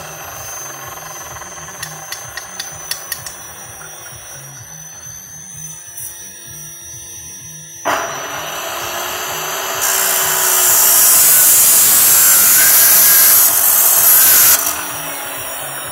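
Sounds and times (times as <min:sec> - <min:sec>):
abrasive disc grinding steel: 0:00.0 - 0:15.9
chop saw motor: 0:00.0 - 0:15.9.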